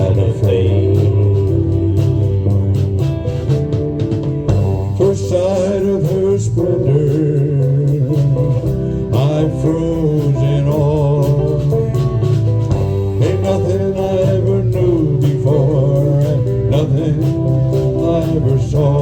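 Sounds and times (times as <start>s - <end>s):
acoustic guitar: 0.0s - 19.0s
bass guitar: 0.0s - 19.0s
drums: 0.0s - 19.0s
lap steel guitar: 0.0s - 19.0s.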